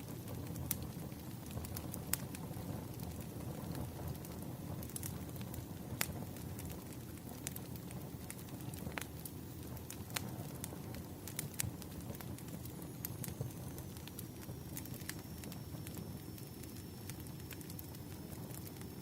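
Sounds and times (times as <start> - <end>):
bonfire rumble: 0.0 - 19.0
fire crackles and pops: 0.0 - 19.0.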